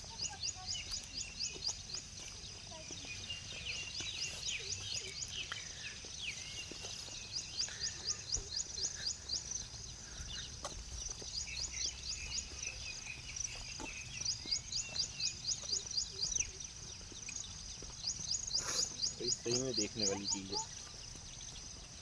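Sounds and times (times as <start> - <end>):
birds chirping rapidly: 0.0 - 22.0.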